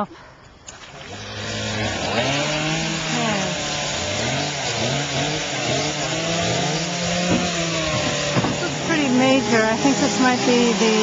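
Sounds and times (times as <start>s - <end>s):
chainsaw cutting a log: 1.1s - 11.0s.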